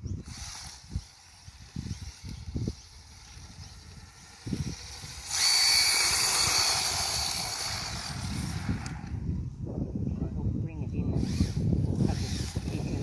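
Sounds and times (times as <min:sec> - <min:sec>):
electric motor whine: 0:00.0 - 0:09.3, 0:11.1 - 0:13.0.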